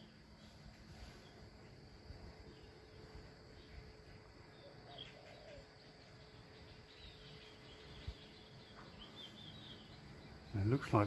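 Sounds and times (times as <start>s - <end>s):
faint bird chirps: 0.0s - 11.0s
insects: 0.0s - 11.0s.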